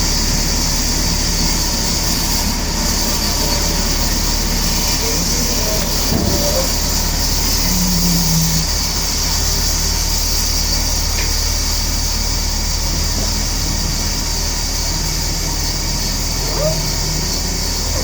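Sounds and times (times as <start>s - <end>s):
sawmill machinery running: 0.0s - 18.0s.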